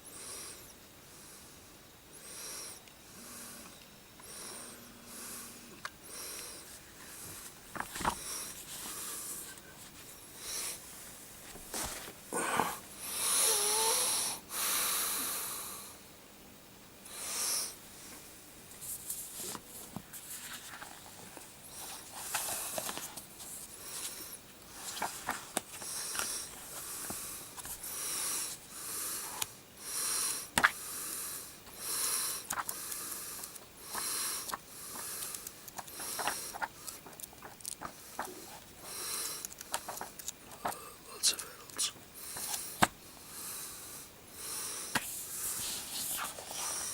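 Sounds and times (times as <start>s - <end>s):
person breathing heavily: 0.1s - 9.6s, 10.3s - 11.0s, 11.7s - 16.0s, 17.1s - 18.3s, 23.7s - 37.1s, 37.8s - 46.9s.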